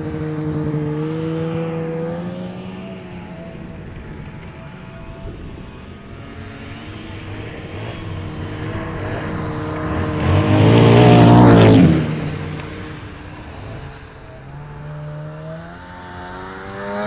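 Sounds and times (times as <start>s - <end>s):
snowmobile engine passing by: 0.0s - 17.0s.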